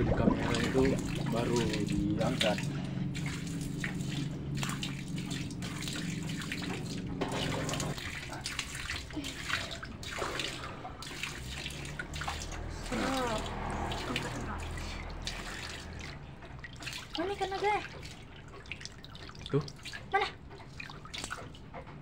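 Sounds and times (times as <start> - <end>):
low steady hum: 0.0 - 22.0
water splashing and sloshing: 0.0 - 22.0.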